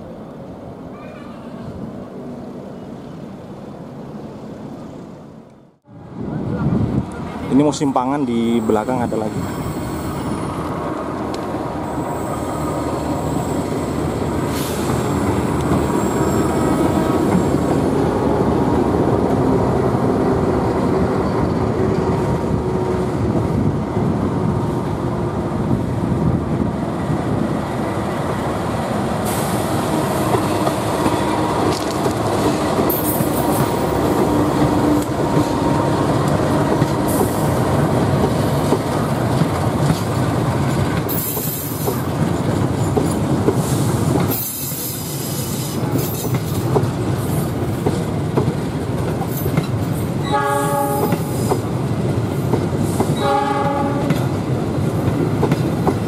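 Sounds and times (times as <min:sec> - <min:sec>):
wheels rumbling on rails: 0:01.3 - 0:56.0.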